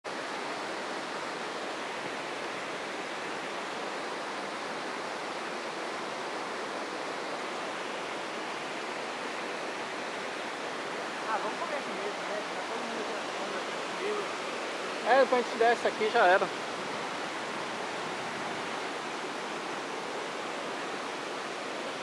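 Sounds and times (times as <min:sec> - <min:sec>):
waterfall rushing over boulders: 0:00.1 - 0:22.0.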